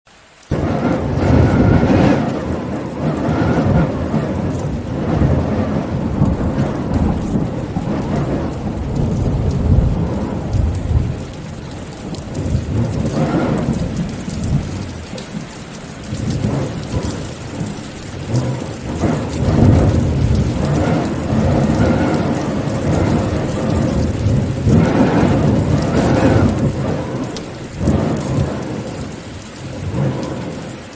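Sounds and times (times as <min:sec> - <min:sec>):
steady rain: 0:00.1 - 0:30.9
rolling thunder: 0:00.5 - 0:30.9.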